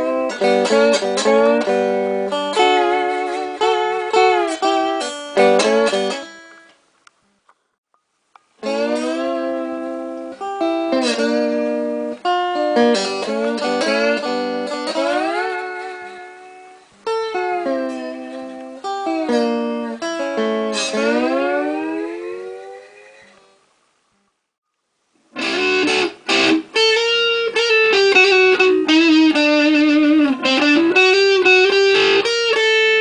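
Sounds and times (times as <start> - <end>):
slide guitar plucked notes: 0.0 - 6.8, 8.6 - 23.6, 25.3 - 33.0.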